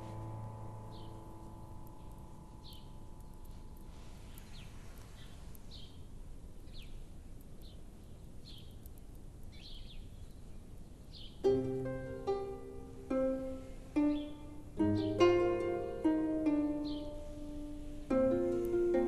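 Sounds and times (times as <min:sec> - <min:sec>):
low steady hiss: 0:00.0 - 0:19.0
small birds chirping: 0:00.0 - 0:19.0.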